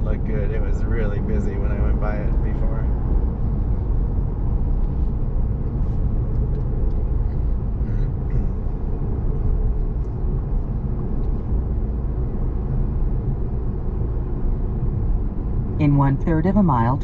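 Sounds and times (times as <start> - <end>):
vehicle cabin engine and road noise: 0.0 - 17.0.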